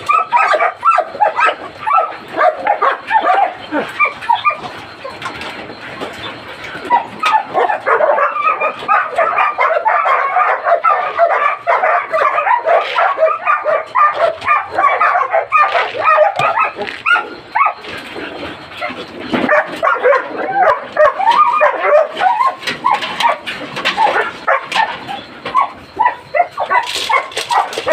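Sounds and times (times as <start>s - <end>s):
dogs barking yipping and whining: 0.0s - 27.9s.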